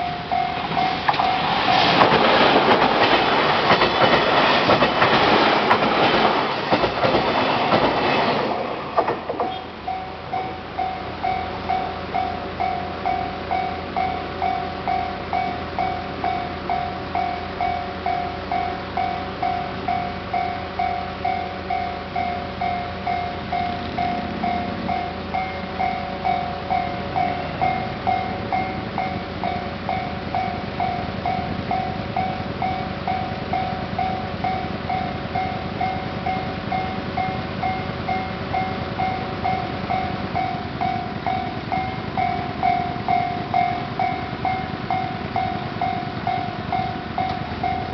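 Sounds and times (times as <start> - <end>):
level-crossing warning bell: 0.0 - 47.9
train rumbling past: 0.0 - 47.9.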